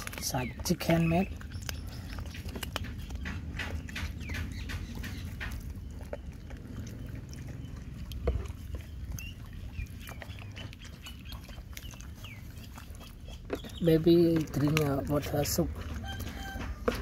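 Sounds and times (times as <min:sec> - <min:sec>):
dog lapping and chewing: 0:00.0 - 0:17.0.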